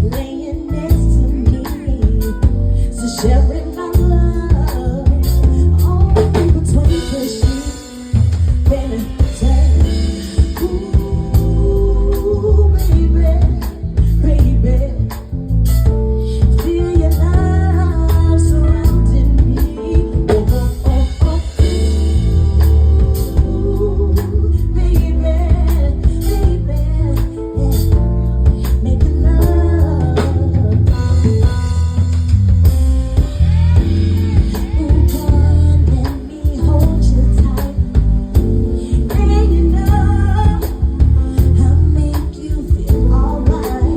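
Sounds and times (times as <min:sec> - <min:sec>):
heavy bass line: 0:00.0 - 0:07.4, 0:08.1 - 0:43.9
person singing: 0:00.0 - 0:15.3, 0:16.2 - 0:31.7, 0:33.1 - 0:43.9
drum kit: 0:00.0 - 0:43.9
guitar: 0:00.0 - 0:43.9.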